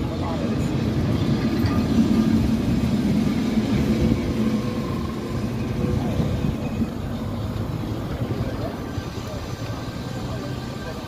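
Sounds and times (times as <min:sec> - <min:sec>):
car driving on cobblestones: 0:00.0 - 0:11.0
tram rumbling past: 0:00.0 - 0:11.0.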